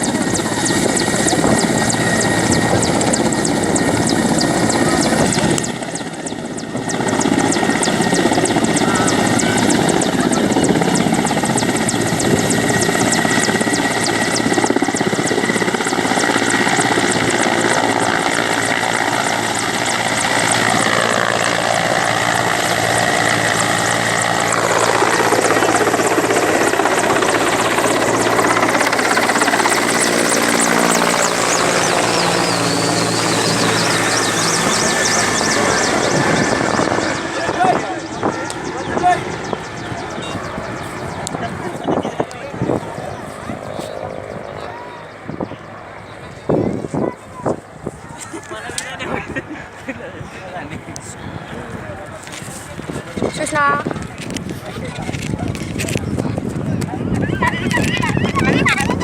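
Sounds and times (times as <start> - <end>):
helicopter rotor blades chopping: 0.0 - 59.0.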